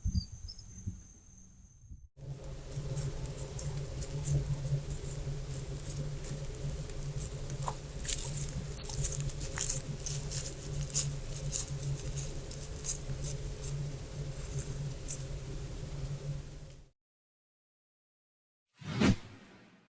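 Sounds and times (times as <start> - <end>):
low electrical hum: 0.3 - 16.9.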